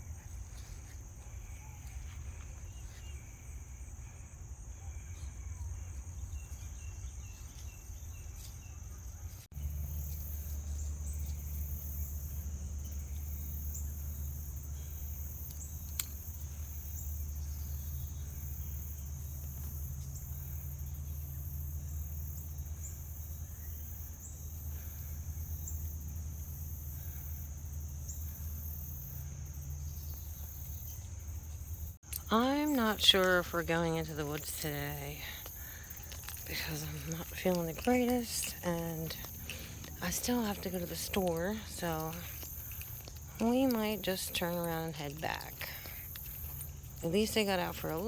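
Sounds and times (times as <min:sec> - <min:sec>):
insects shrilling: 0:09.5 - 0:48.0.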